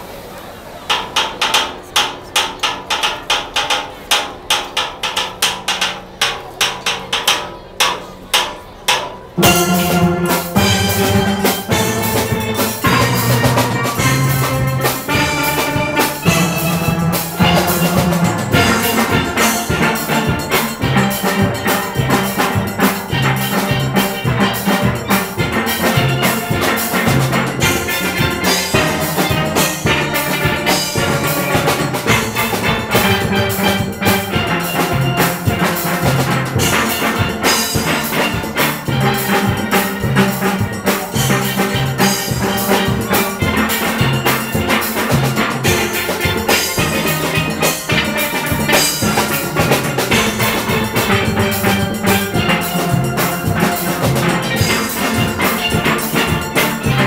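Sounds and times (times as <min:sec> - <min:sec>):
steel band playing: 0:00.9 - 0:57.0.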